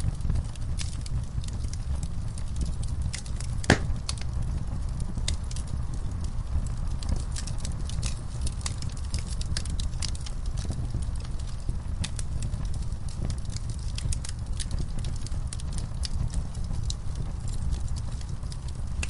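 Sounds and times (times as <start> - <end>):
low rumble of burning: 0.0 - 19.0
wood fire crackling and popping: 0.0 - 19.0.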